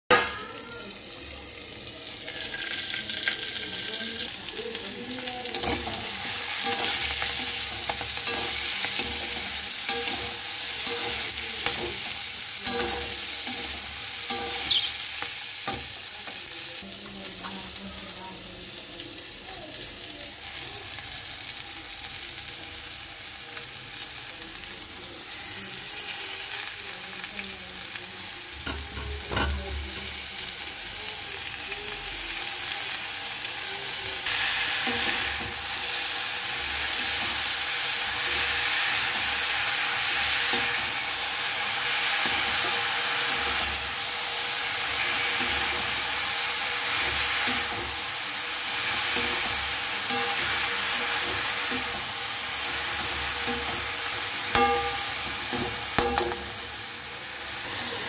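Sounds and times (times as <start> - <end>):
vegetables sizzling in oil: 0.1 - 58.0.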